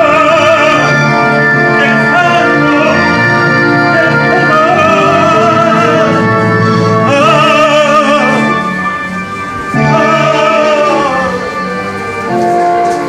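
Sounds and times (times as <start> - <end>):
man singing opera: 0.0 - 13.0
orchestral accompaniment through speaker: 0.0 - 13.0.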